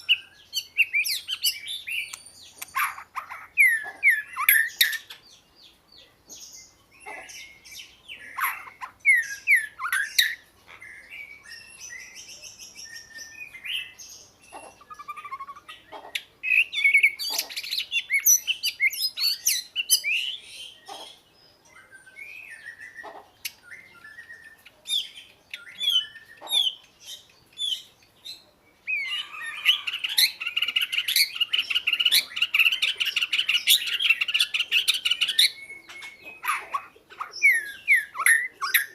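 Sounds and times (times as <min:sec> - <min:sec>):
bird singing whistles and warbling: 0:00.0 - 0:05.4, 0:06.4 - 0:38.9.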